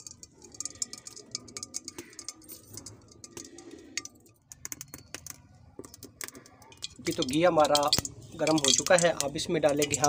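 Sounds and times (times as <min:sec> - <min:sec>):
ghee sizzling and crackling: 0:00.0 - 0:10.0.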